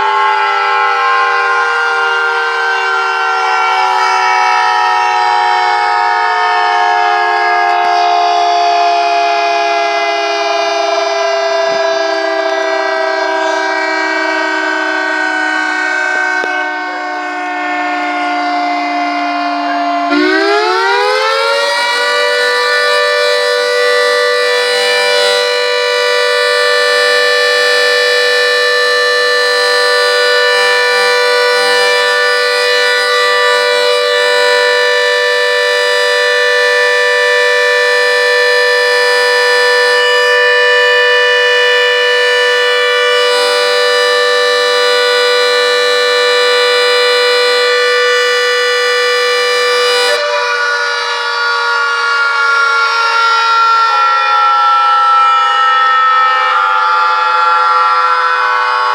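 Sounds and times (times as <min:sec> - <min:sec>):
siren sweeping up in pitch: 0:00.0 - 0:58.9.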